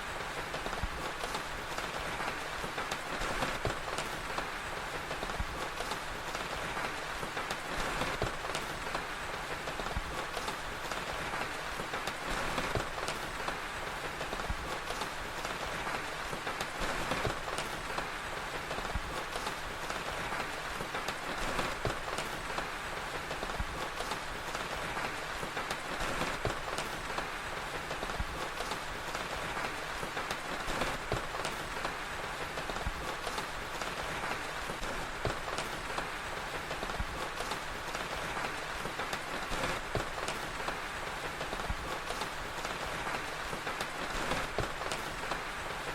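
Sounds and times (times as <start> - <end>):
fire crackling: 0.0 - 45.9
steady rain hiss: 0.0 - 45.9.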